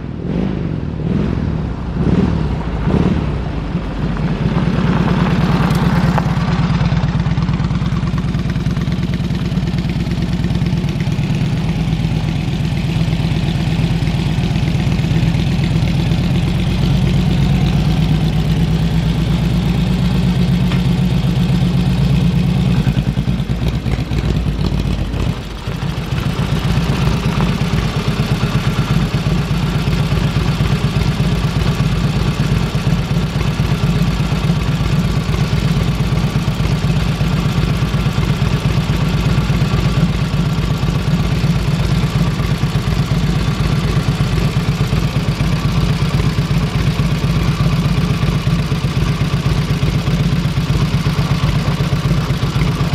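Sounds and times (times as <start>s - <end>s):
motorcycle engine idling: 3.8s - 52.9s.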